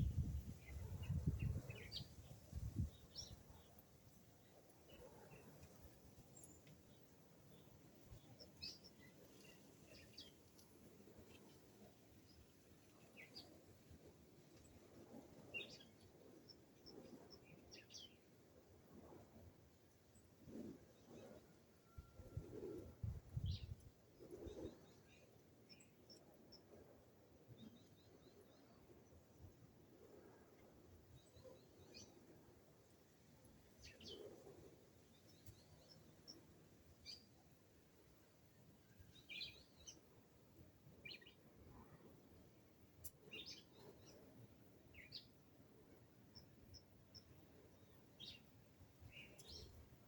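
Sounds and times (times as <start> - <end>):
faint birdsong: 0.0 - 50.0
low steady background hiss: 0.0 - 50.0.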